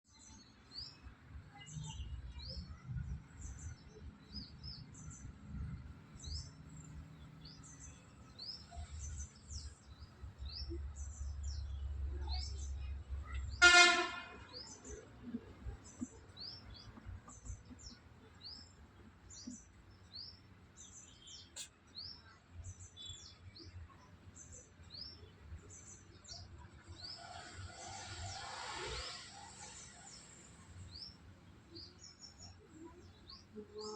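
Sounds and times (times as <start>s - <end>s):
bird chirping: 0.1s - 33.9s.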